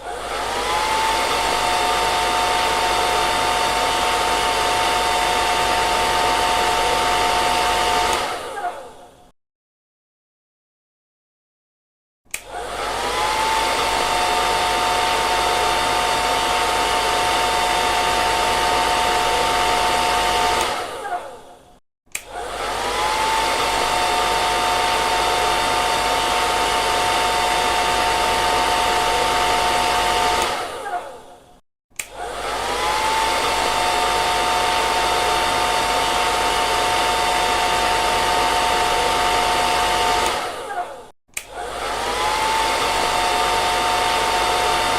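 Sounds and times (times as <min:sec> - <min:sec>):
hair dryer whining: 0:00.0 - 0:09.3, 0:12.3 - 0:44.9.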